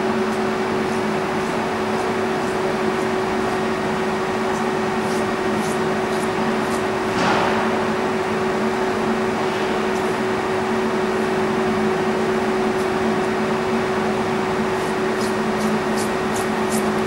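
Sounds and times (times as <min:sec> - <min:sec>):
machine hum with low tones: 0:00.0 - 0:17.0.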